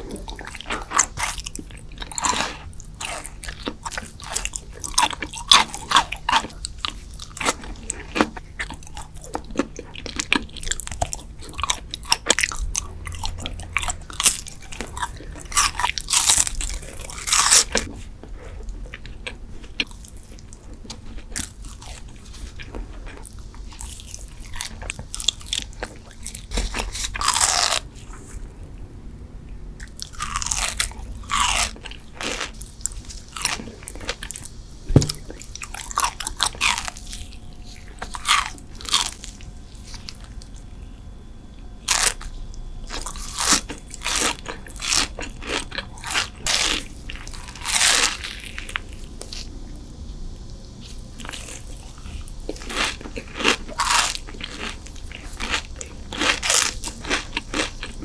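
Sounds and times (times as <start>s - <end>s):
crunchy wet chewing: 0.0s - 28.8s, 29.8s - 41.0s, 41.9s - 58.0s.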